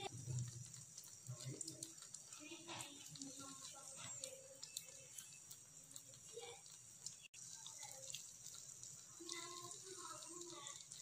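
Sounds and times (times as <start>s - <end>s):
omelette sizzling in a pan: 0.0s - 11.0s.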